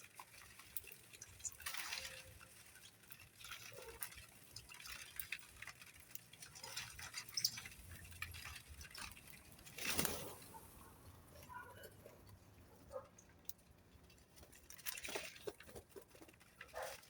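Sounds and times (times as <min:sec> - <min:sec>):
birds pecking and scratching: 0:00.0 - 0:17.0.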